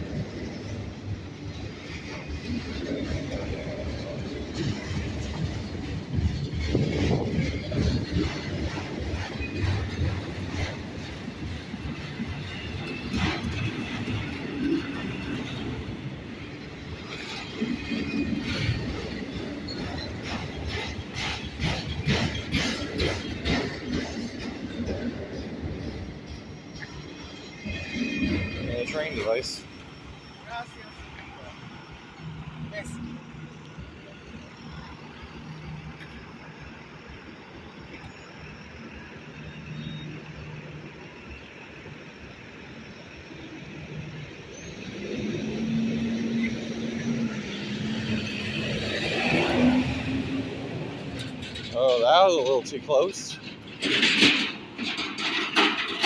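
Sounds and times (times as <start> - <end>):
freight train rumbling: 0.0 - 56.0
road and traffic noise: 0.0 - 56.0
wheels squealing: 0.0 - 56.0.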